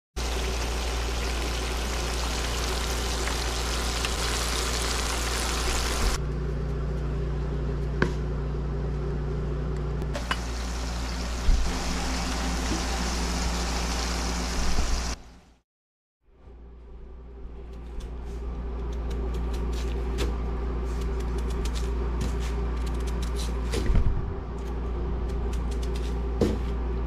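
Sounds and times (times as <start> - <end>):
low hum: 0.3 - 15.4, 16.3 - 27.0.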